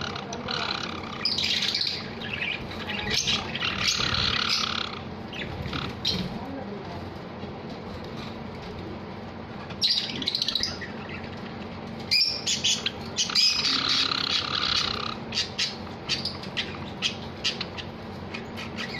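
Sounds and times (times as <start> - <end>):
sparrows chirping: 0.0 - 6.6, 9.6 - 18.9.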